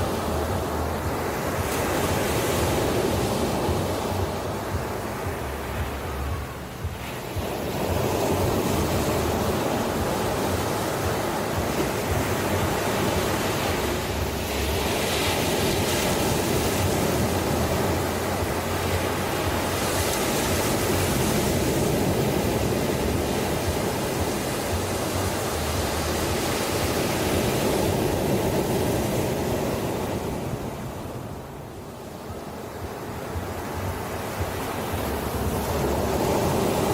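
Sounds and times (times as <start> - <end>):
ocean surf washing ashore: 0.0 - 36.9.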